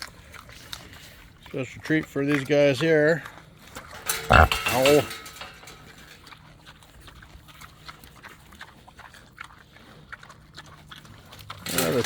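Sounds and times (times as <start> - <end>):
animals pecking and chewing: 0.0 - 12.0.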